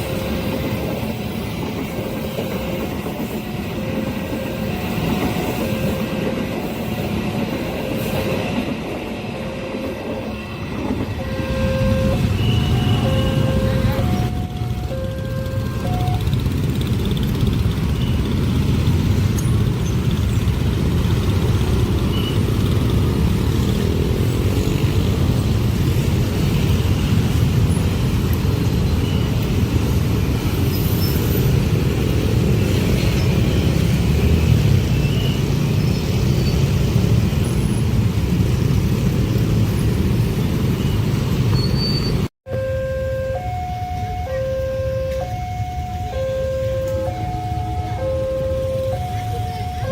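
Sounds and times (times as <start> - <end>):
train wheels rumbling on rails: 0.0 - 42.3.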